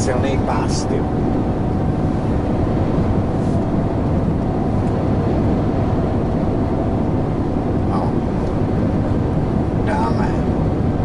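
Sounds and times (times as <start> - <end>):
faint steady whine: 0.0 - 11.0
lorry engine and road noise: 0.0 - 11.0.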